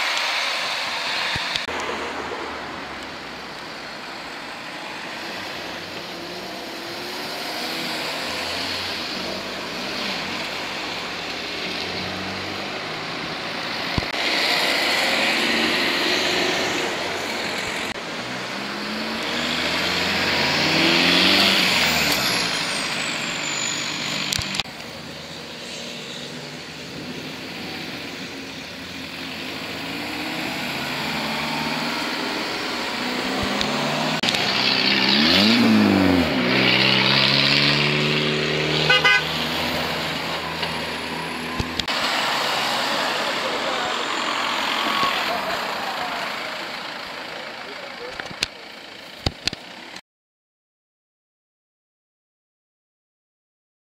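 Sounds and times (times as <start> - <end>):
cars accelerating past: 0.0 - 48.0.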